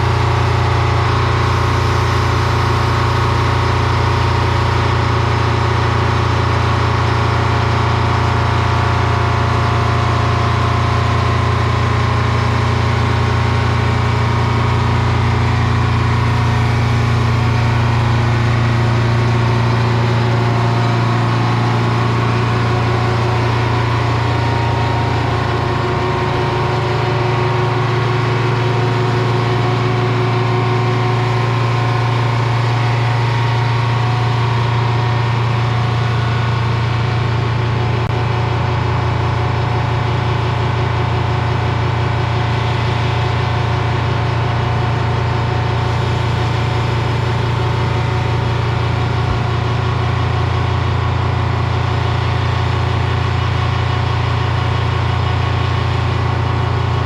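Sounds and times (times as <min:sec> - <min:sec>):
track machine engine running: 0:00.0 - 0:57.0.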